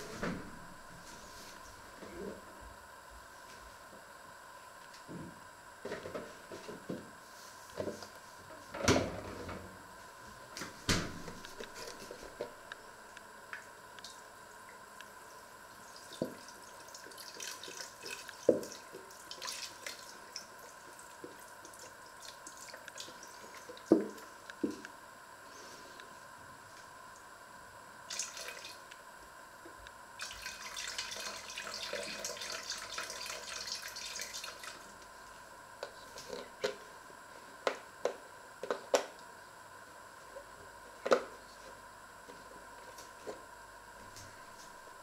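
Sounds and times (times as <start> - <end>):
faint hum: 0.0 - 45.0.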